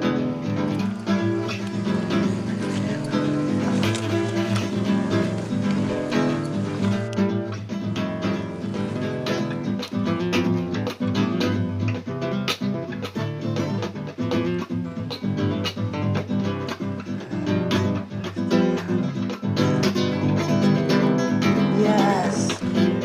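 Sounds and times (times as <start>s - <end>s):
acoustic guitar plucked and strummed: 0.0s - 23.0s.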